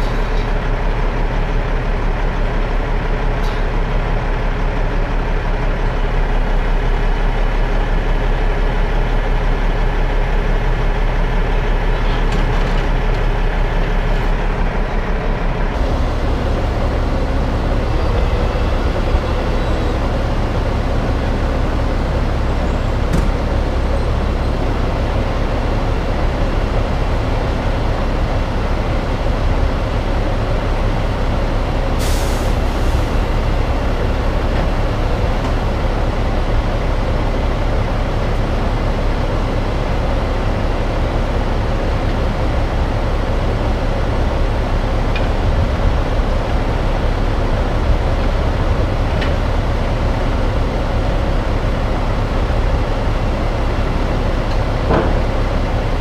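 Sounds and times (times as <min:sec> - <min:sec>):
diesel truck engines running: 0:00.0 - 0:56.0.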